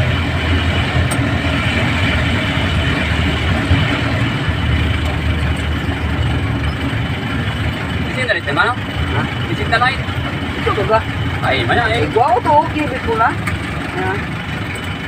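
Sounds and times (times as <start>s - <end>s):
engine droning: 0.0s - 15.0s
road noise: 0.0s - 15.0s.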